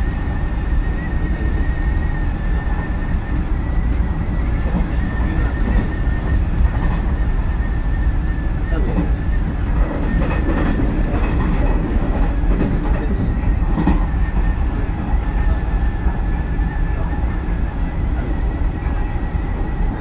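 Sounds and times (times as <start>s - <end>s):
train wheels rumbling on rail: 0.0s - 20.0s
rail joint clacks: 1.0s - 7.4s, 8.2s - 20.0s.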